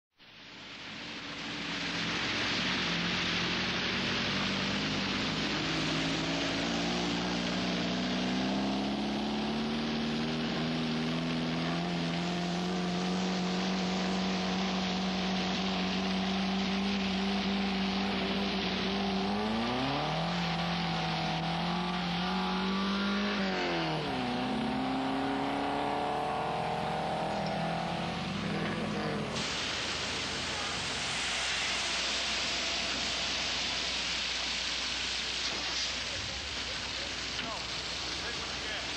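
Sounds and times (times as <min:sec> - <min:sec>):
steady hiss: 0:00.2 - 0:38.9
vehicle engine running: 0:01.1 - 0:38.9.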